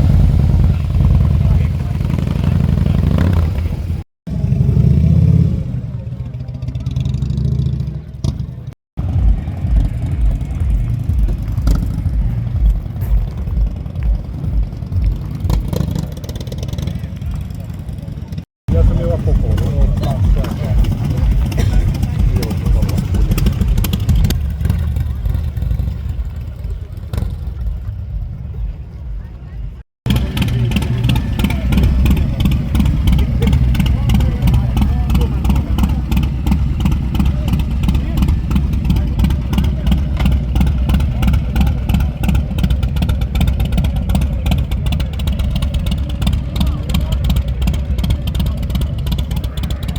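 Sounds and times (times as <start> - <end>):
motorcycle engine rumbling: 0.0 - 49.9.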